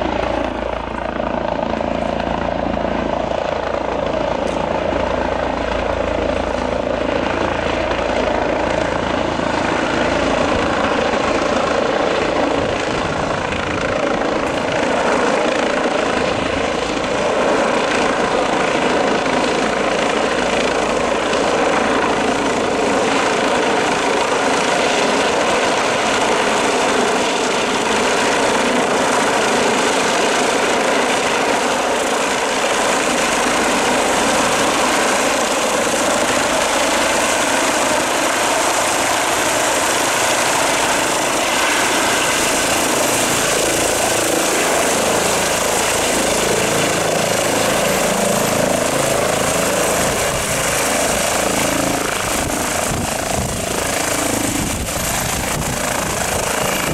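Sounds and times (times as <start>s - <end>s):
helicopter rotor and turbine noise: 0.0s - 56.9s.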